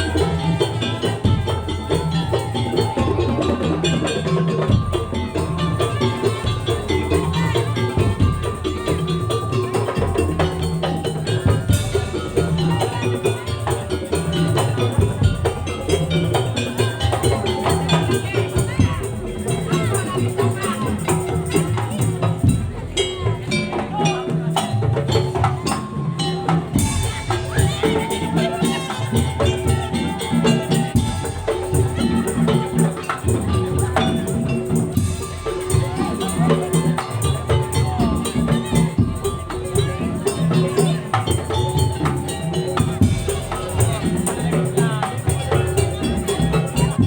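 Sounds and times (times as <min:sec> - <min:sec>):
rattling shaken percussion: 0:00.0 - 0:47.0
repeating drum beat: 0:00.0 - 0:47.0
tuned percussion melody: 0:00.0 - 0:47.0.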